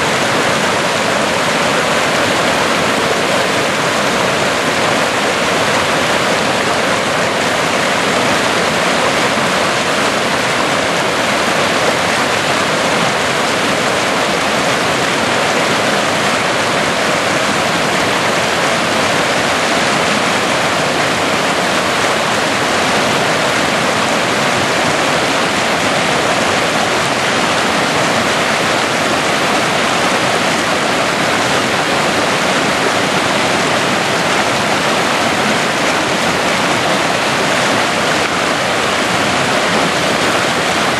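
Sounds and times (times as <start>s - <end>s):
stream rushing over boulders: 0.0s - 40.9s.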